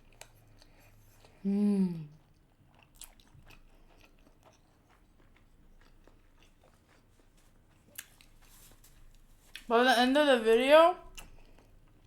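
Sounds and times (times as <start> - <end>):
chewing with mouth clicks: 0.0 - 1.4, 2.1 - 9.7, 11.1 - 12.0.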